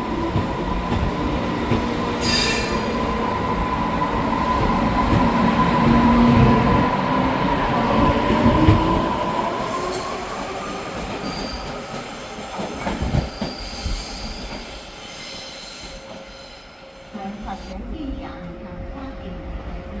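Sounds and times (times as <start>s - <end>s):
electric train rumbling past: 0.0s - 20.0s.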